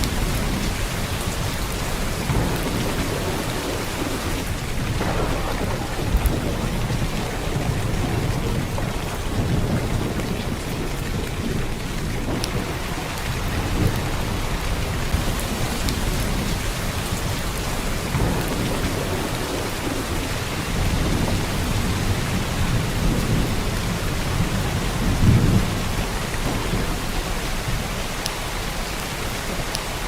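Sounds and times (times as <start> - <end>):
heavy rain hiss: 0.0 - 30.0.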